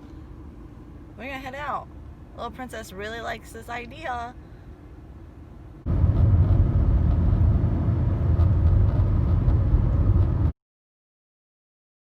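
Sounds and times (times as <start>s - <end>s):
car road and wind rumble: 0.0s - 10.6s.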